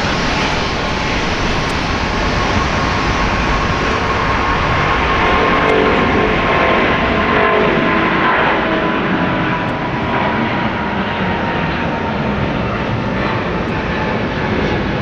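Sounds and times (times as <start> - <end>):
jet airliner taxiing: 0.0 - 15.0.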